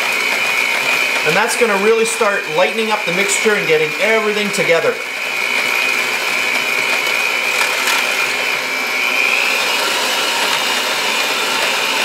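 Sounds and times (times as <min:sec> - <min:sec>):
electric hand mixer whisking batter: 0:00.0 - 0:12.0.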